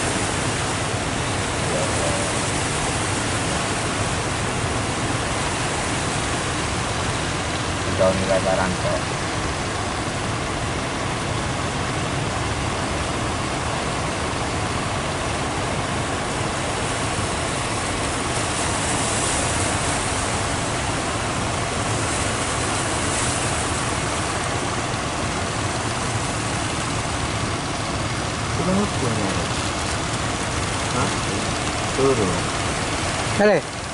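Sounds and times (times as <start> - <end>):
boat engines rumbling: 0.0 - 33.9
breaking surf: 0.0 - 33.9.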